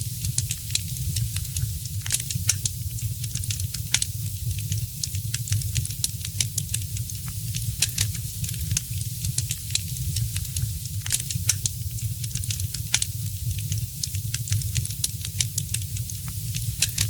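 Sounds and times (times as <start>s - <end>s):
fire crackling and popping: 0.1s - 17.0s.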